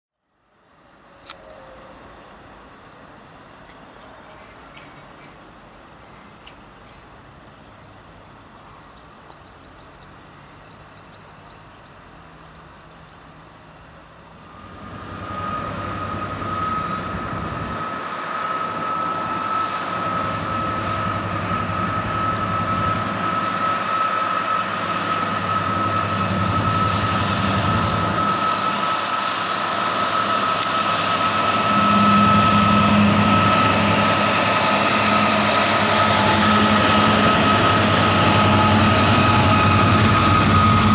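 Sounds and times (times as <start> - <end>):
diesel locomotive engine whine: 0.2 - 40.9.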